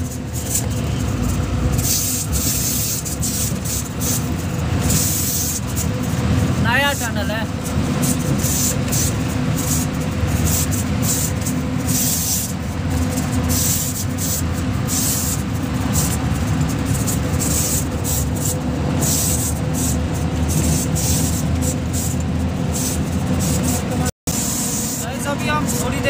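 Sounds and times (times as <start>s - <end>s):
truck engine running: 0.0s - 26.0s
tyre and road noise: 0.0s - 26.0s.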